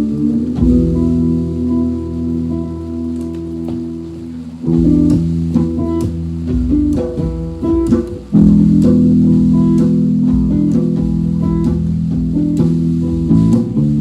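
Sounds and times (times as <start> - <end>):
guitar and bass playing: 0.0 - 14.0.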